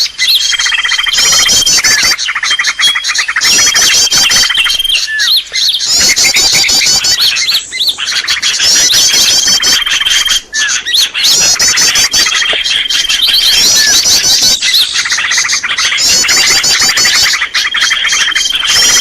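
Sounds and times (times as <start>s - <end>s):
birdsong chirps and trills: 0.0s - 19.0s.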